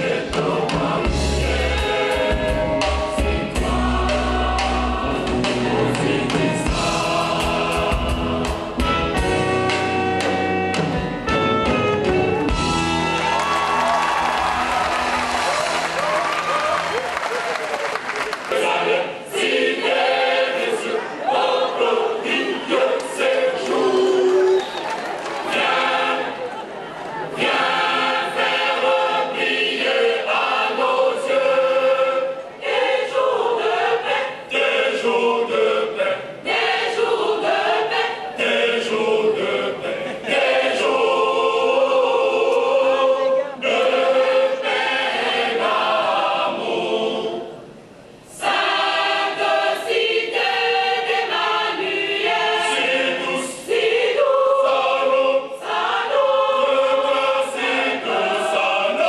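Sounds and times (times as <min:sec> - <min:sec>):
choir singing a hymn unaccompanied: 0:00.0 - 0:10.8, 0:18.4 - 0:24.6, 0:25.3 - 0:59.0.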